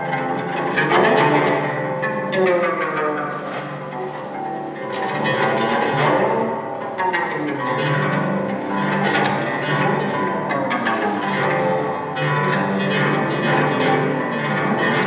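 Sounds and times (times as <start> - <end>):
zither plucked notes: 0.0 - 15.0.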